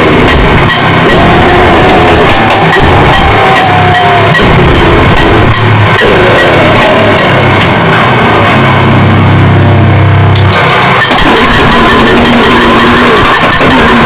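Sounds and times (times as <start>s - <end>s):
sharp repeating clicks: 0.0s - 7.8s, 10.4s - 14.0s
distorted low rumble: 0.0s - 14.0s
wall of distorted noise: 0.0s - 14.0s.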